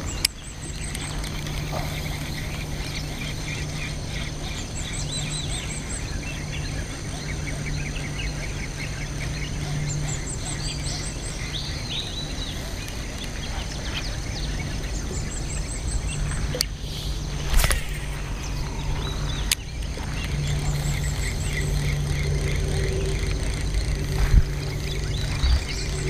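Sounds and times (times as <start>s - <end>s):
birds chirping: 0.0s - 26.0s
steady background hiss: 0.0s - 26.0s.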